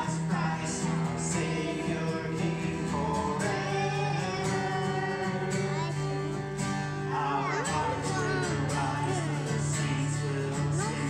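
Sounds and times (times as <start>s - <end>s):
man and boy singing: 0.0s - 6.4s, 7.0s - 11.0s
acoustic guitar: 0.0s - 11.0s.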